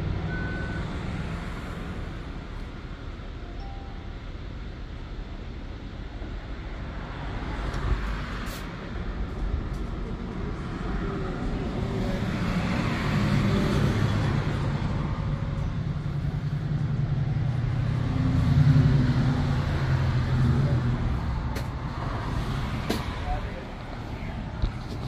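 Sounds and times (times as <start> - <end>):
heavy vehicle engine drone: 0.0 - 25.0
road traffic passing: 0.0 - 25.0.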